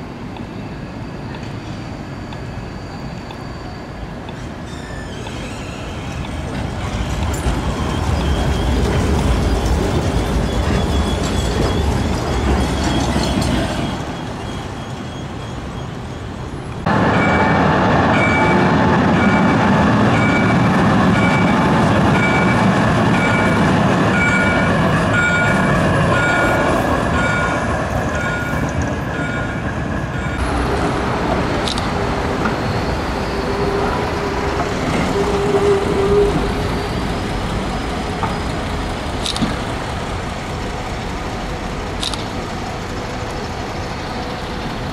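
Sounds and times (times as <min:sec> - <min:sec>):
trams rumbling on street track: 0:00.0 - 0:44.9.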